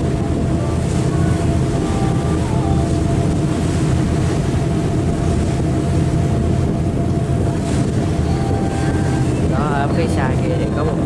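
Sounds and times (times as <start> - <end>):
ferry engines droning: 0.0 - 11.0
wind on microphone: 0.0 - 11.0.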